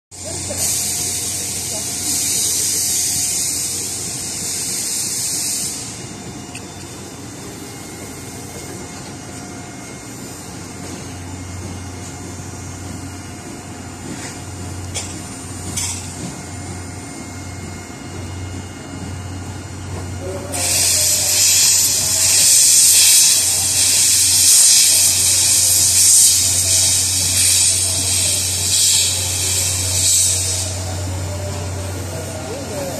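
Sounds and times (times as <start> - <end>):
steam hissing from locomotive: 0.1 - 32.9.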